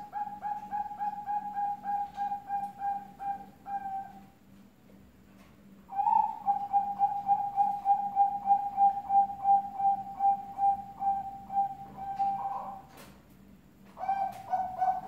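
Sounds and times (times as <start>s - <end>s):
dove cooing: 0.0s - 4.3s, 5.9s - 13.0s, 14.0s - 15.0s.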